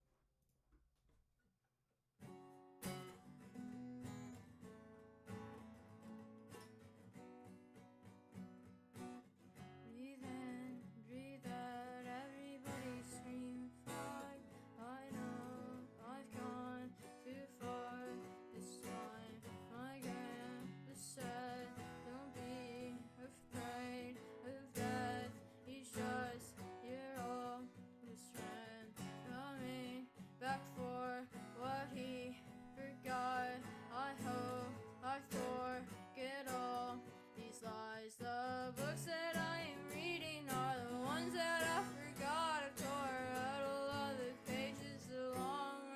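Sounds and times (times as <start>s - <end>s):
acoustic guitar plucked and strummed: 2.2s - 45.9s.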